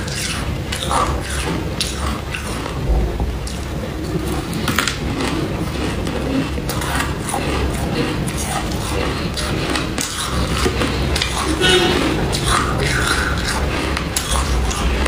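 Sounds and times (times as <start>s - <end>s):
chewing crunchy ice: 0.0s - 15.0s.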